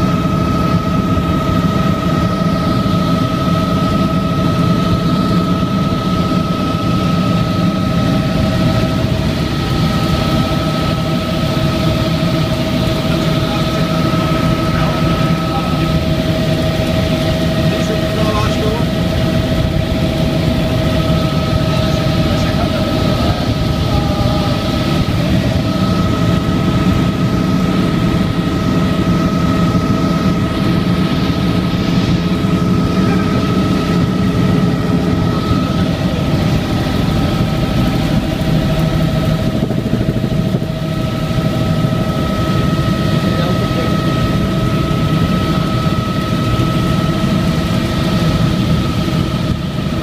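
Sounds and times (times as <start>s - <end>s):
helicopter engine and rotor drone: 0.0s - 50.0s.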